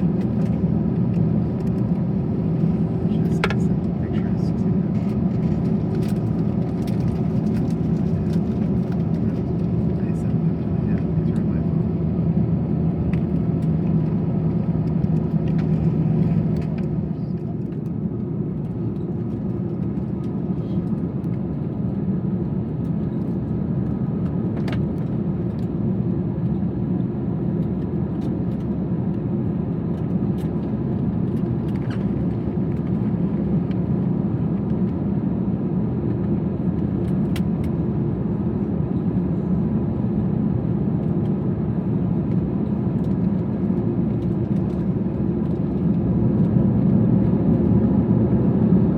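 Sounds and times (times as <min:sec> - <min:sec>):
aircraft cabin rumble and hum: 0:00.0 - 0:48.9.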